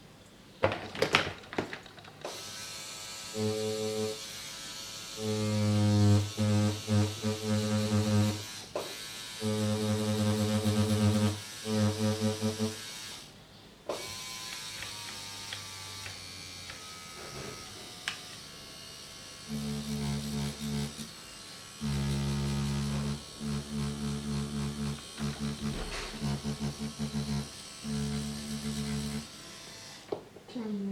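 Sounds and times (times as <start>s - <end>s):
tattoo machine buzzing: 2.2s - 13.3s, 13.9s - 30.1s.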